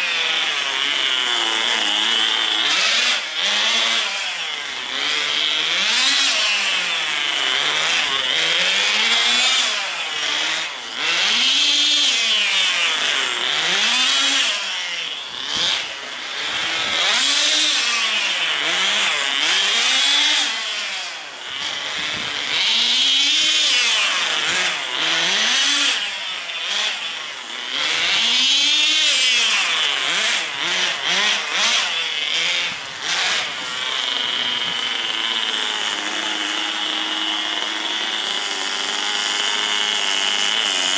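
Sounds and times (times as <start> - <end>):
rc car engine buzzing: 0.0 - 40.9.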